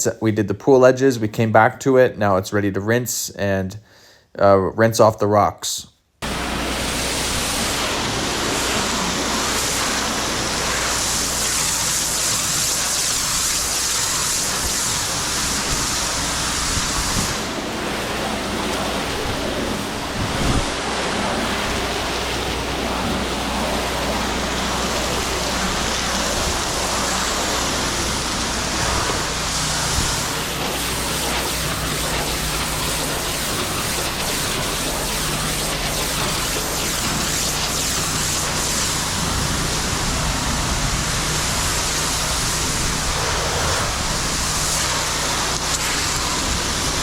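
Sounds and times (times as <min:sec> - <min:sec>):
machine humming: 0:06.2 - 0:47.0
pressure washer spraying water: 0:06.2 - 0:47.0.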